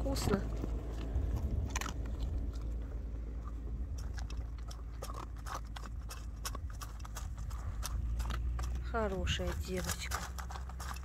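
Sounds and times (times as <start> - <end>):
dog crunching dry kibble: 0.0 - 11.0
low steady rumble: 0.0 - 11.0.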